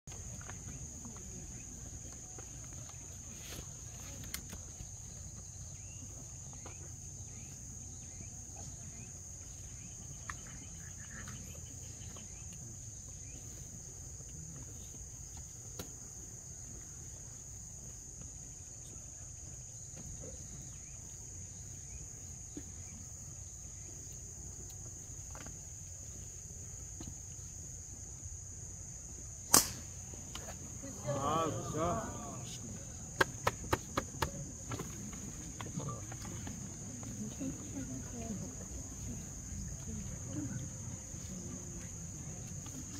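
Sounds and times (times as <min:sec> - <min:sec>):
insects chirring: 0:00.1 - 0:42.9
low outdoor hum: 0:00.1 - 0:42.9.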